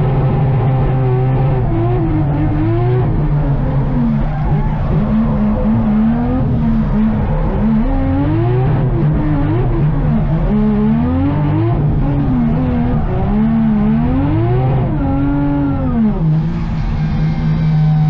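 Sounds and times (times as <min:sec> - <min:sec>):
car engine revving: 0:00.0 - 0:18.0
low engine drone: 0:00.0 - 0:18.0.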